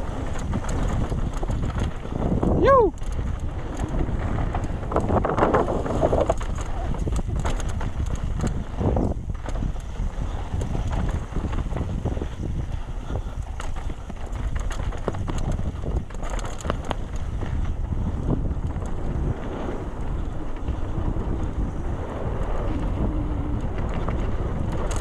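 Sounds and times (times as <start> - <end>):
bike clicking and rattling: 0.0 - 25.0
wind rush on microphone: 0.0 - 25.0.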